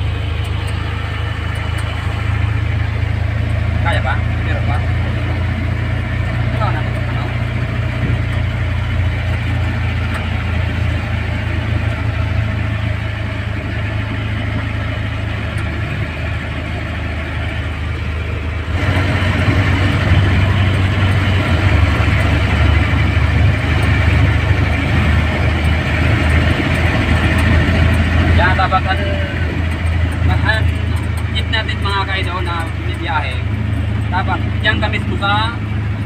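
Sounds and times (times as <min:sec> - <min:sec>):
diesel engine droning: 0:00.0 - 0:36.0
road and cabin noise: 0:00.0 - 0:36.0.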